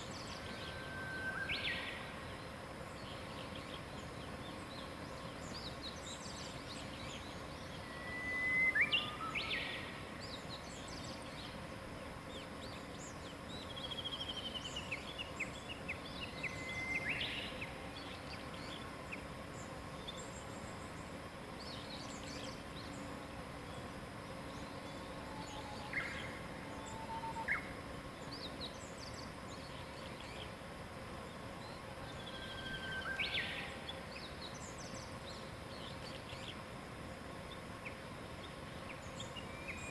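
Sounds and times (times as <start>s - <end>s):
faint constant hum: 0.0s - 39.9s
outdoor hiss: 0.0s - 39.9s
songbirds singing: 0.0s - 39.9s.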